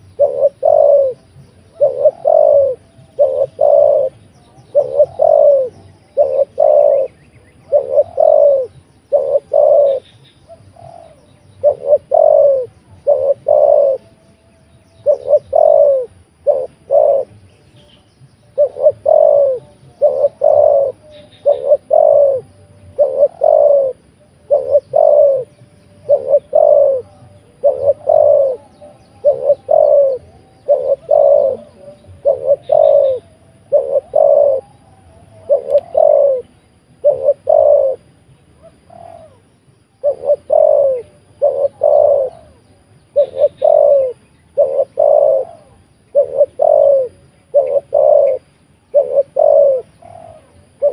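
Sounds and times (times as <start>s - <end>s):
dove cooing: 0.0s - 14.2s, 14.8s - 17.6s, 18.5s - 50.9s.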